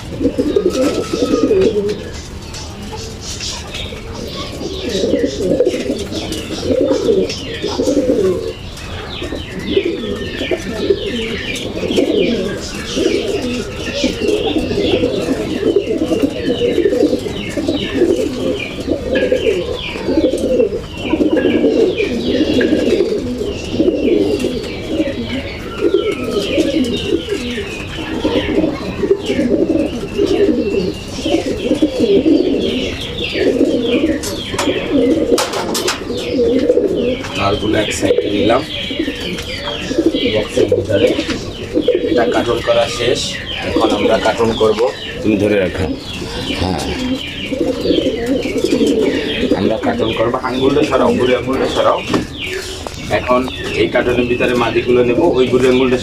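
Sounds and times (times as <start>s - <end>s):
bird chirps: 0.0s - 56.0s
birds scrabbling: 0.0s - 56.0s
pigeons cooing: 0.0s - 56.0s.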